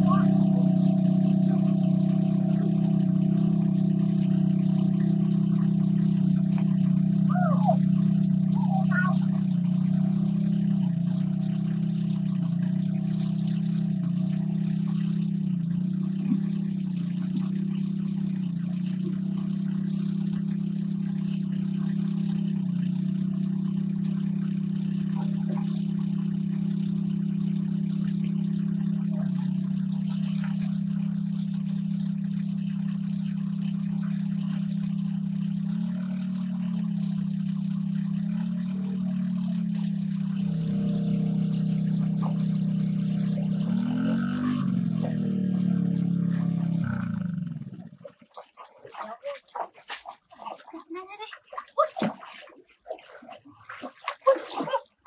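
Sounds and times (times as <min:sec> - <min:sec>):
small engine humming: 0:00.0 - 0:48.1.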